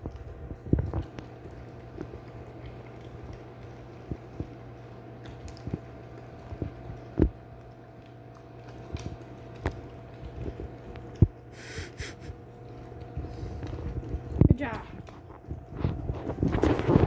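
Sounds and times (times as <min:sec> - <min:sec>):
dog crunching and chewing: 0:00.0 - 0:17.0
steady low hum: 0:00.0 - 0:17.0.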